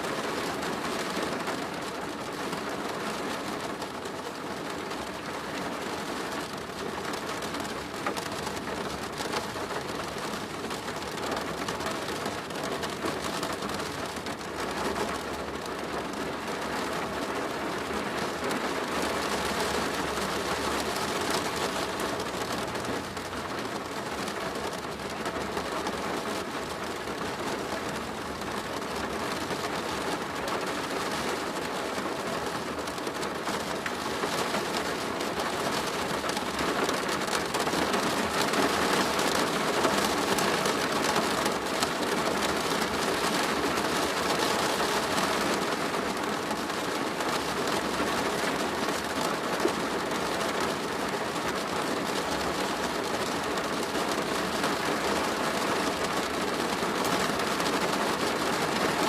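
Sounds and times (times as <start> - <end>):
rain drumming on plastic roof: 0.0 - 59.0.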